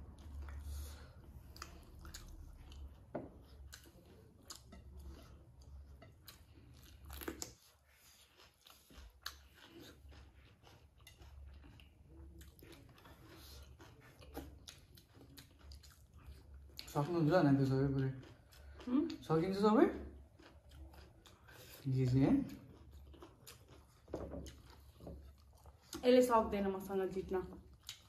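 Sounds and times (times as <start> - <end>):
person chewing and crunching: 0.0 - 26.0, 27.5 - 28.0.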